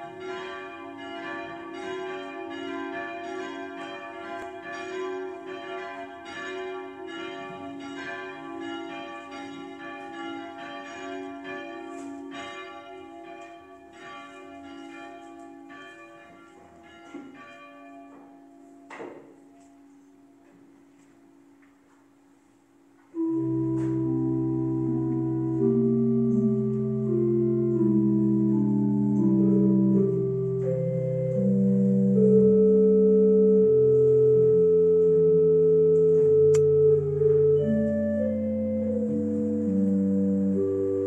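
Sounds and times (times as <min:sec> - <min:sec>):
church bells ringing: 0:00.0 - 0:41.0.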